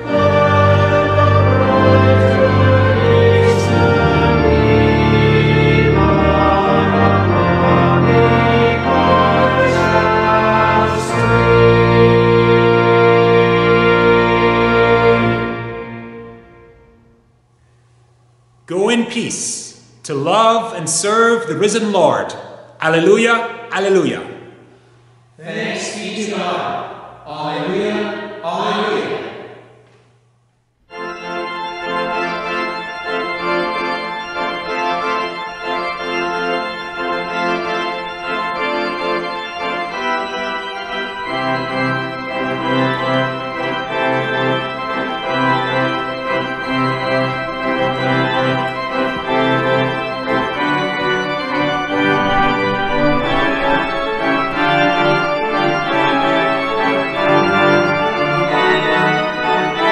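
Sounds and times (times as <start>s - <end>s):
organ bass line: 0.0s - 17.3s, 17.9s - 59.9s
organ chords: 0.0s - 59.9s.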